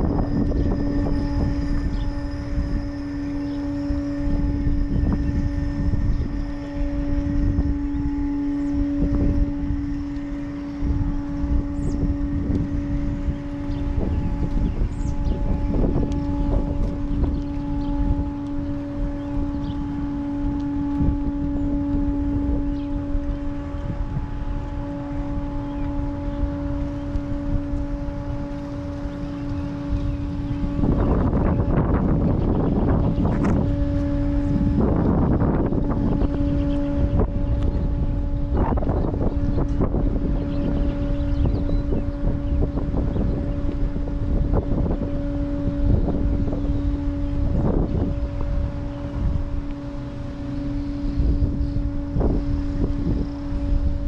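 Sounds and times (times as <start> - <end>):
steady droning hum: 0.0 - 54.0
wind buffeting microphone: 0.0 - 54.0.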